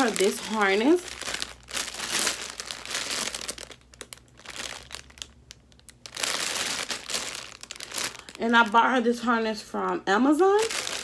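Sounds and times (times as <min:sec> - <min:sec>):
plastic packaging crinkling: 0:00.0 - 0:09.2, 0:10.4 - 0:11.0.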